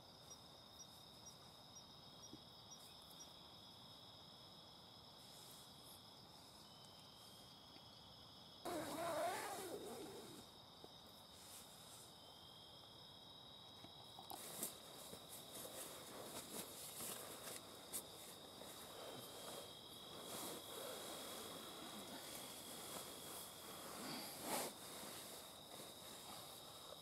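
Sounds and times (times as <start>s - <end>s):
insects trilling: 0.0s - 27.0s.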